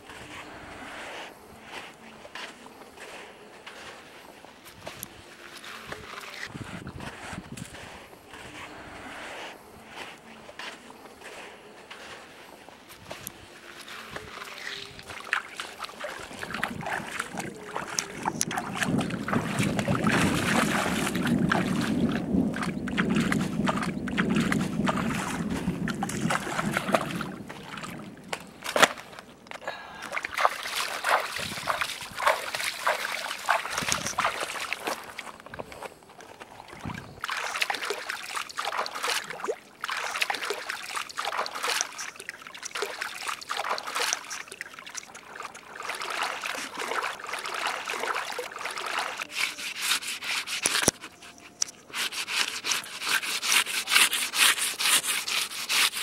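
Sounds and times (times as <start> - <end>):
shallow water sloshing and splashing: 7.7 - 56.0.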